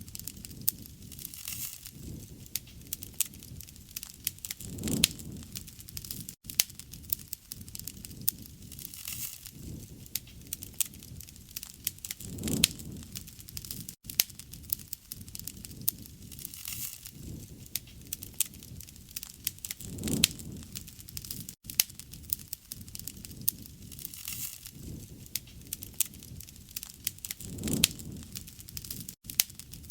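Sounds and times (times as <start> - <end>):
rushing of flame: 0.0 - 29.9
wood fire crackling and popping: 0.0 - 29.9.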